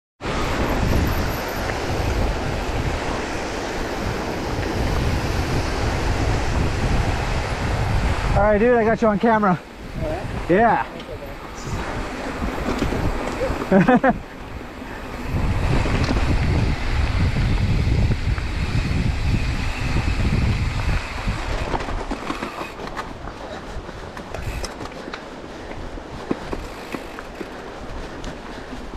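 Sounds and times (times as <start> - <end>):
steady rushing noise: 0.2 - 28.9
wind buffeting microphone: 0.2 - 28.9
bike rattling: 0.3 - 28.9.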